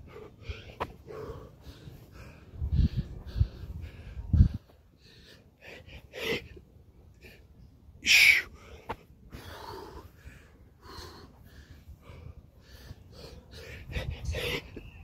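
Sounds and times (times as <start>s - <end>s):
man breathing hard: 0.0s - 14.8s.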